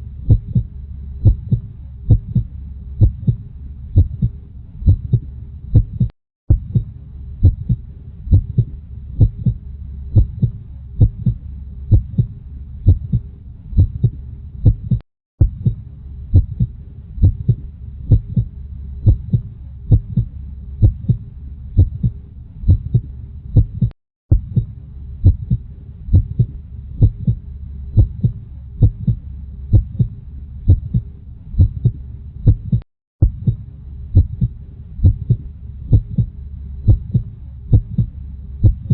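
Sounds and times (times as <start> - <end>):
low rumble: 0.0 - 38.9
heartbeat: 0.2 - 38.9.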